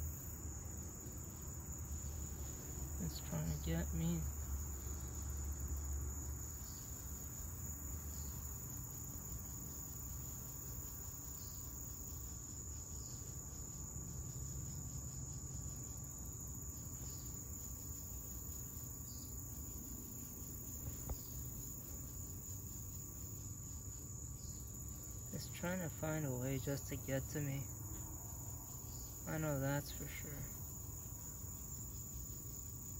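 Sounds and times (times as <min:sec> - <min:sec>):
high-pitched insect chorus: 0:00.0 - 0:32.9.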